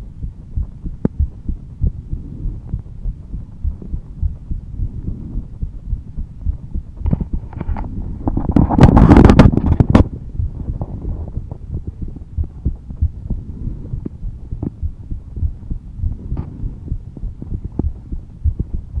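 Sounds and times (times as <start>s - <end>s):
heartbeat thuds: 0.0s - 19.0s.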